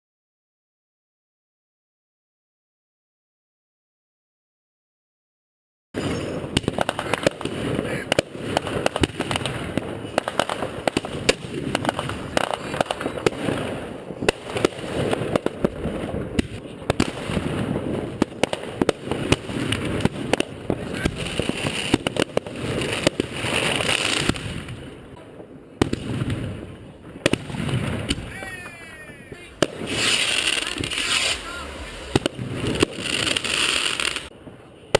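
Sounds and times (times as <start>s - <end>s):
fireworks banging and crackling: 6.0s - 34.9s.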